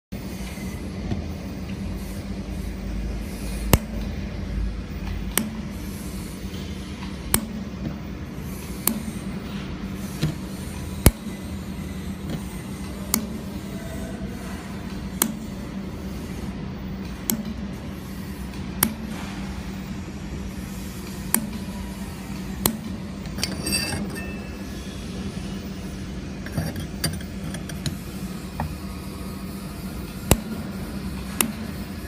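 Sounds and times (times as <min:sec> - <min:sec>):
laser welder humming: 0:00.2 - 0:32.0.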